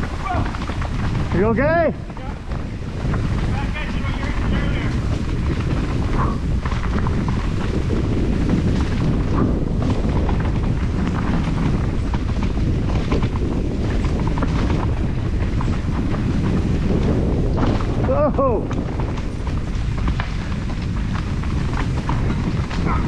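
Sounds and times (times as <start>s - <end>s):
bike rattles and clicks: 0.0s - 23.0s
jolting rumble on microphone: 0.0s - 23.0s.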